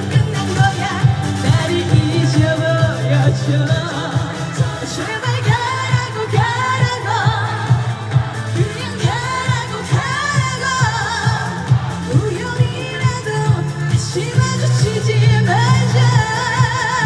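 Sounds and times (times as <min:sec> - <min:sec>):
backing music with steady beat: 0:00.0 - 0:17.0
woman singing: 0:00.0 - 0:17.0.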